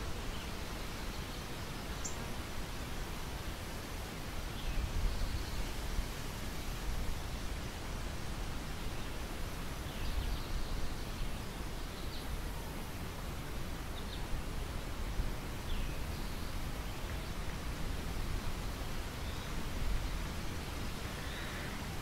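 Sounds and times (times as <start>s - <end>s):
wind rustling wheat: 0.0s - 22.0s.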